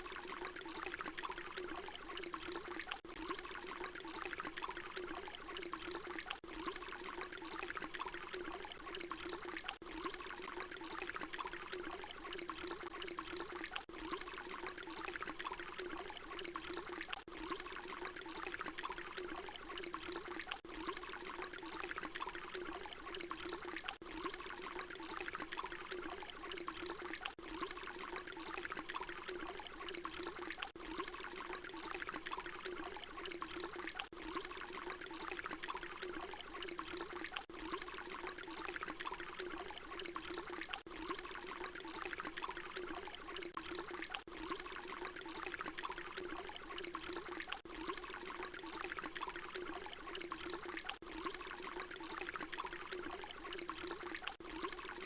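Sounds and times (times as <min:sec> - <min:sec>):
water pouring: 0:00.0 - 0:55.0.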